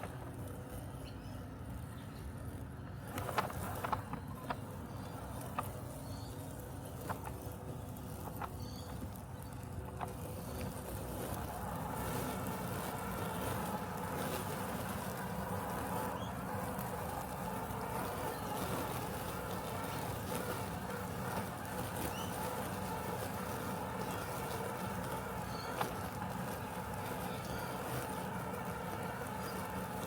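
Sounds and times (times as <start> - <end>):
robotic lawn mower hum: 0.0 - 30.0.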